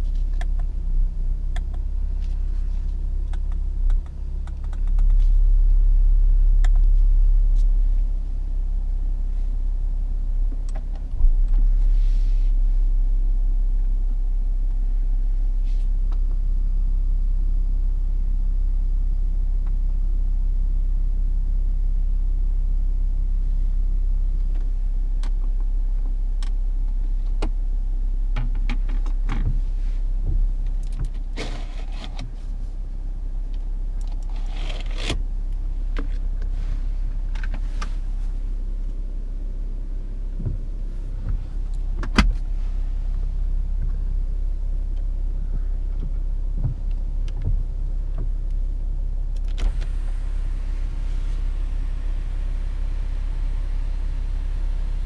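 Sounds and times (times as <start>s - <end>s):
diesel engine idling: 0.0s - 18.2s, 29.1s - 55.0s.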